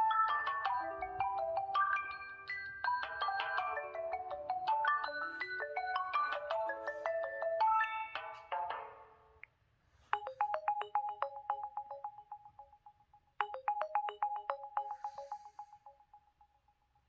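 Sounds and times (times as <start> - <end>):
electronic phone ringtone: 0.0 - 9.0, 10.2 - 16.7.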